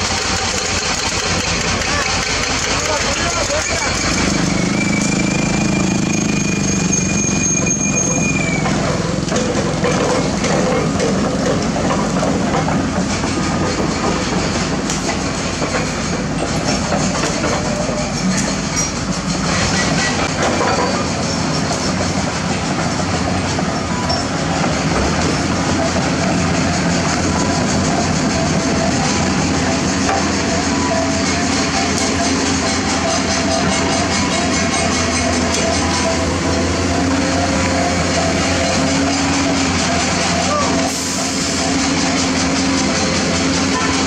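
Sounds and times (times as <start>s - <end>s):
diesel engine: 0.0s - 44.0s
steel tracks clanking and squealing: 0.0s - 44.0s.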